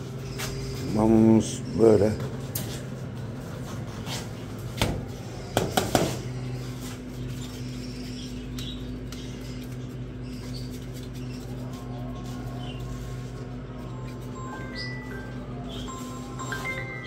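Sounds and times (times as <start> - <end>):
budgerigar chicks cheeping: 0.0 - 2.4, 5.1 - 17.0
steady low hum: 0.0 - 17.0.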